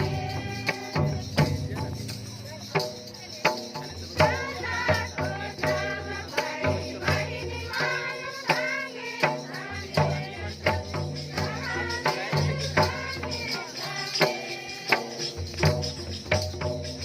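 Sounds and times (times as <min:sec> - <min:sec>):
voices singing: 0:00.0 - 0:01.9, 0:03.9 - 0:15.7
jingling percussion: 0:00.0 - 0:17.0
steady drum beat: 0:00.0 - 0:17.0.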